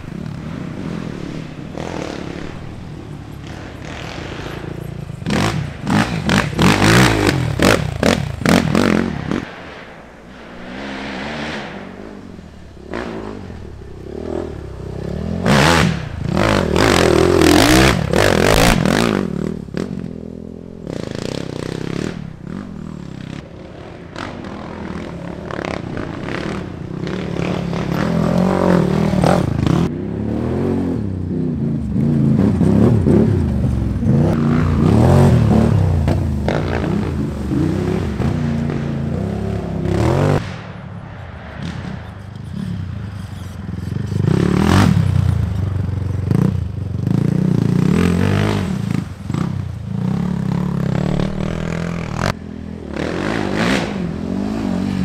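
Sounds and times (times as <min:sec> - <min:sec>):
quad engines revving: 0:00.0 - 0:09.8, 0:10.6 - 0:40.4, 0:41.6 - 0:55.0.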